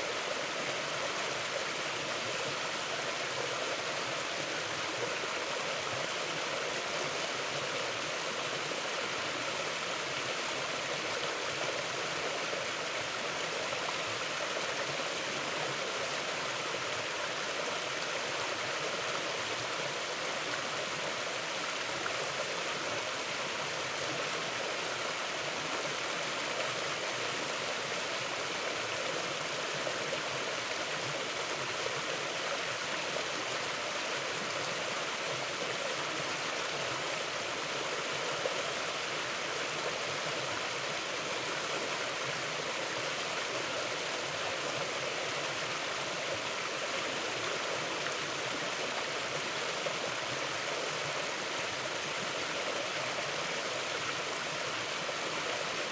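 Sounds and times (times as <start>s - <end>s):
river flowing over rocks: 0.0s - 55.9s.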